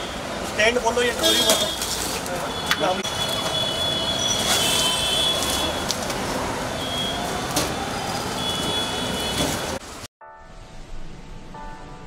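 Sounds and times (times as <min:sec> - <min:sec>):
street traffic noise: 0:00.0 - 0:10.1.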